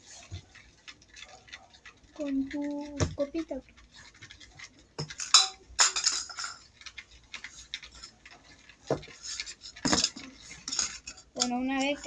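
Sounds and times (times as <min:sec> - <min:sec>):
utensil clinking against container: 0:00.0 - 0:12.0.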